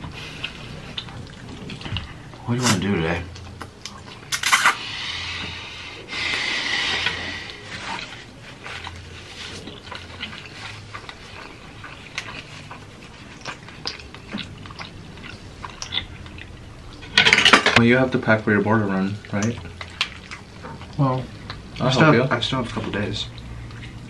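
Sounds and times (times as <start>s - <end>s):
chewing and mouth sounds: 0.0s - 24.0s.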